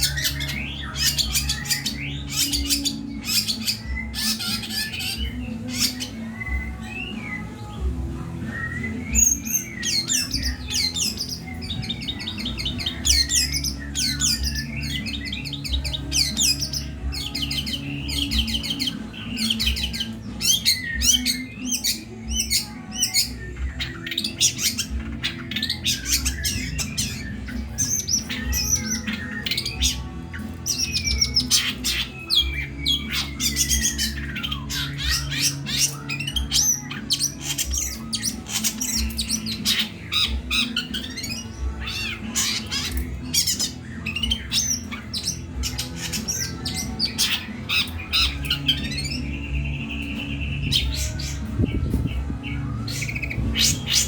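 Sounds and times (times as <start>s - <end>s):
bird singing with trills and squawks: 0.0s - 54.0s.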